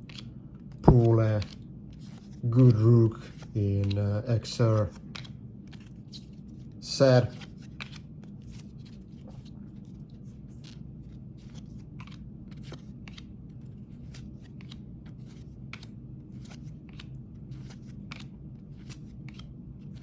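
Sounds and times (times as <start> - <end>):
cards flipping and sliding: 0.0 - 20.0
steady low hum: 0.0 - 20.0.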